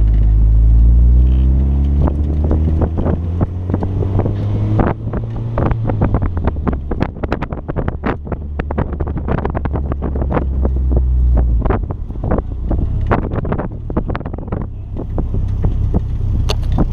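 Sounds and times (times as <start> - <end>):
car engine running: 0.0 - 16.9
wind buffeting microphone: 1.8 - 16.9.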